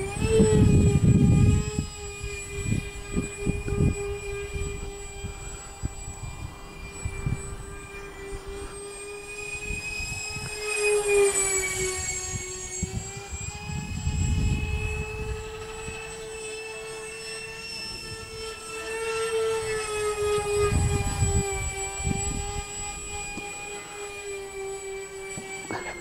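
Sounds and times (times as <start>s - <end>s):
wind buffeting microphone: 0.0s - 16.5s, 17.5s - 24.6s
model jet fans whining: 0.0s - 26.0s.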